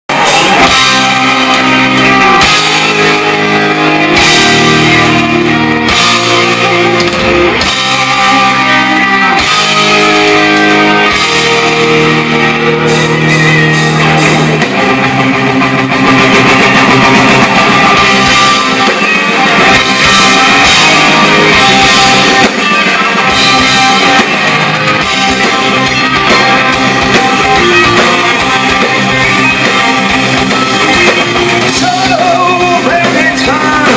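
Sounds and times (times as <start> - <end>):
drums: 0.0 - 33.9
bass guitar: 0.1 - 33.9
electric guitar chords: 0.1 - 33.9.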